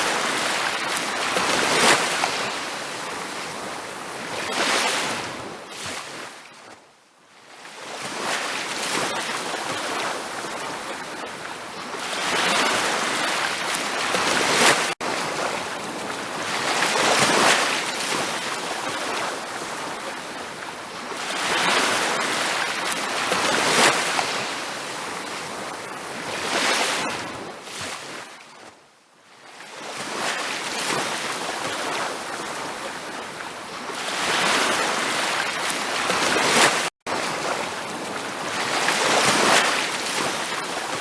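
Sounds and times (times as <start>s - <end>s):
ocean surf breaking on beach: 0.0s - 6.5s, 7.6s - 28.7s, 29.4s - 41.0s.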